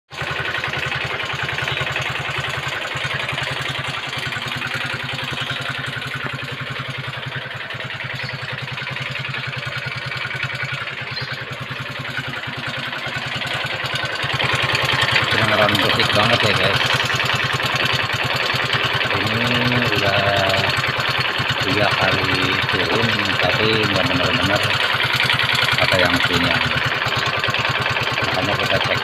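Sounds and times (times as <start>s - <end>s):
engine ticking clatter: 0.1s - 29.0s
scooter engine idling: 0.1s - 29.0s.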